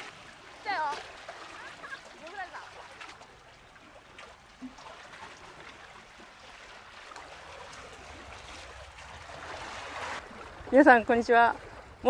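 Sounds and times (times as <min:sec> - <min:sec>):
seawater washing among concrete blocks: 0:00.0 - 0:12.0.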